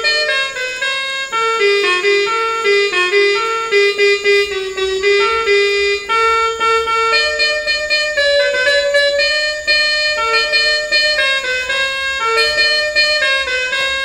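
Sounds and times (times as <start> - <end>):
electronic keyboard melody: 0.0 - 14.0.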